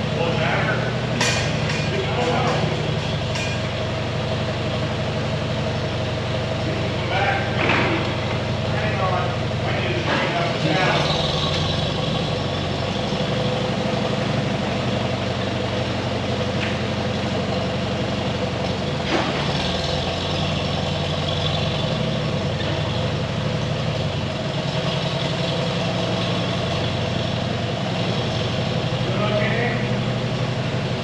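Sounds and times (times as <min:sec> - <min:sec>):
farm machinery engine running: 0:00.0 - 0:31.0.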